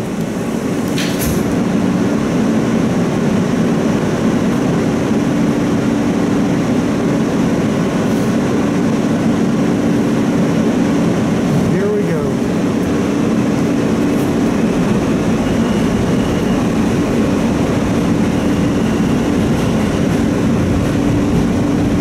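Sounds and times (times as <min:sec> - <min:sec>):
subway car doors shutting: 0:00.0 - 0:11.8, 0:12.5 - 0:22.0
train electrical hum: 0:00.0 - 0:22.0.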